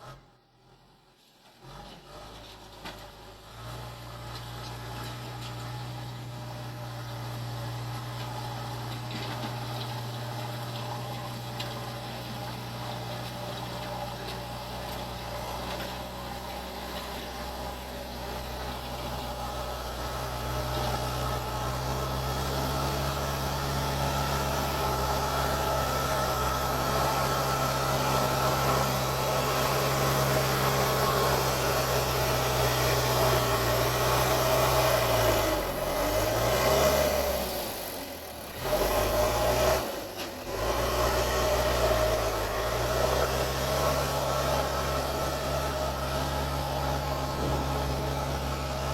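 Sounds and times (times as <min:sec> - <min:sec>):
diesel engine running: 0:01.7 - 0:48.9.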